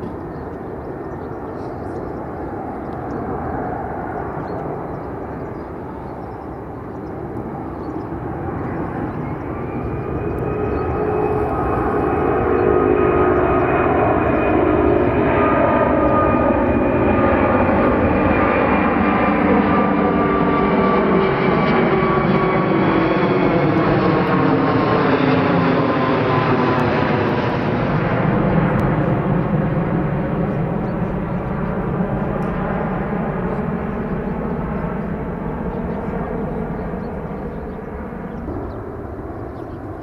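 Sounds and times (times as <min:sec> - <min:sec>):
jet engine rush overhead: 0:00.0 - 0:40.0
jet engine whine: 0:00.0 - 0:40.0.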